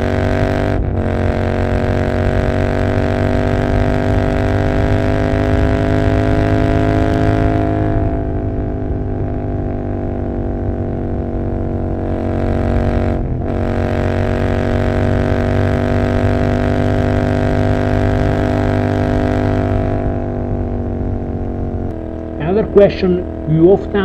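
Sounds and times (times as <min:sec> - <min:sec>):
motorcycle engine under load: 0:00.0 - 0:24.0.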